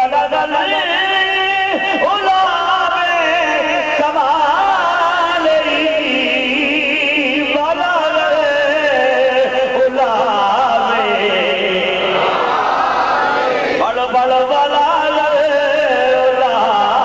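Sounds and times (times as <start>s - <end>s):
man chanting into microphone: 0.0s - 12.5s, 13.8s - 17.0s.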